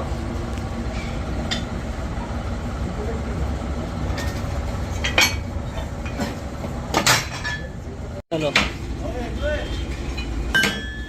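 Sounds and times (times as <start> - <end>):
low rumble of machinery: 0.0 - 11.0.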